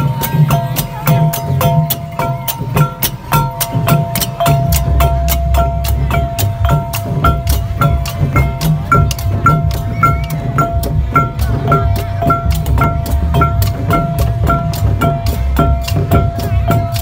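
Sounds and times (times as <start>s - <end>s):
drums beating: 0.0s - 17.0s.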